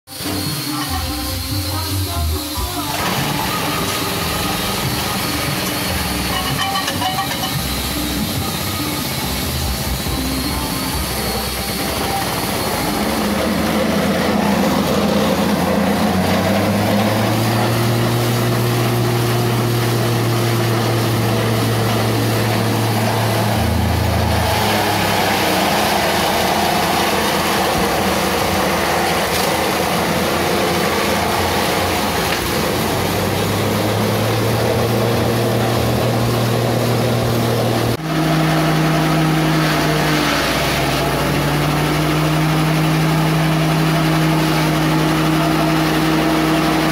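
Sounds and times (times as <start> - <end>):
engine driven chopper running: 0.1 - 46.9
stalks being shredded: 2.8 - 46.9.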